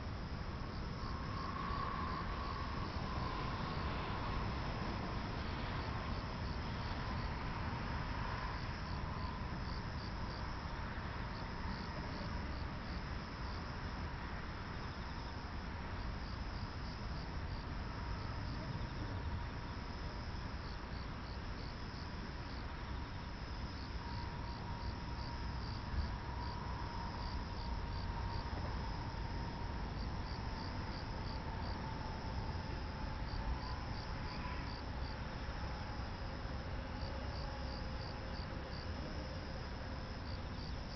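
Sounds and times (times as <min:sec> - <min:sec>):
crickets chirping: 0:00.0 - 0:40.9
steady background hiss: 0:00.0 - 0:40.9.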